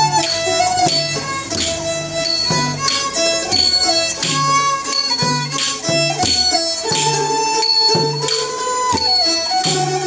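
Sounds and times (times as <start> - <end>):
bowed fiddles melody: 0.0 - 10.0
drum steady beat: 0.0 - 10.0
plucked lutes: 0.0 - 10.0.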